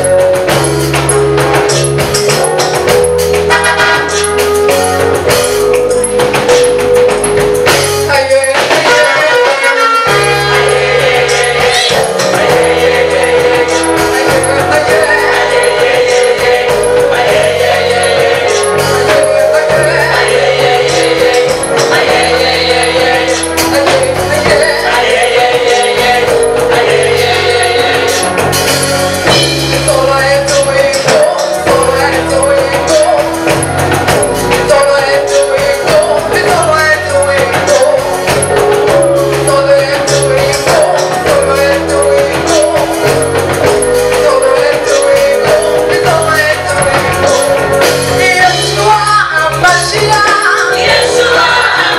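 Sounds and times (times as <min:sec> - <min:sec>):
bass line: 0:00.0 - 0:51.9
choir singing gospel song: 0:00.0 - 0:51.9.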